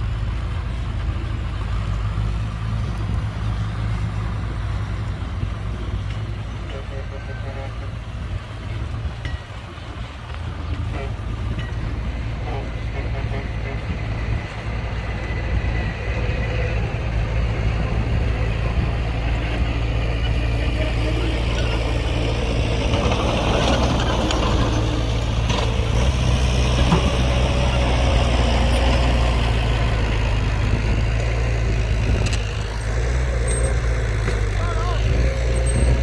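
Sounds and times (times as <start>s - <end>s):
heavy diesel engine rumbling: 0.0s - 36.0s.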